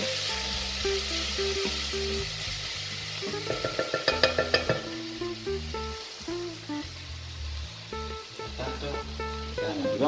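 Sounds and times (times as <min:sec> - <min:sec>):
background music: 0:00.0 - 0:10.0
vegetables sizzling in oil: 0:00.0 - 0:10.0.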